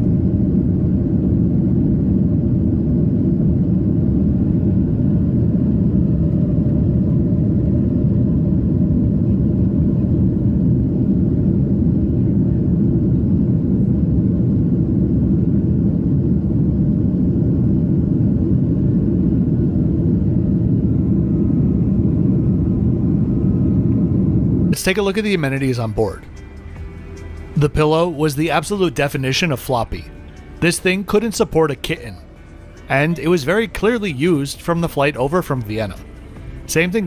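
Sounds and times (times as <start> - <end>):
jet airliner cabin rumble: 0.0 - 37.0.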